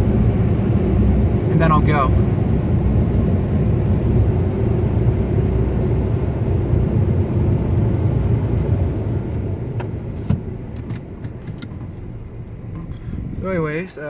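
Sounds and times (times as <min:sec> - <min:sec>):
car wash blowers rumbling: 0:00.0 - 0:14.0.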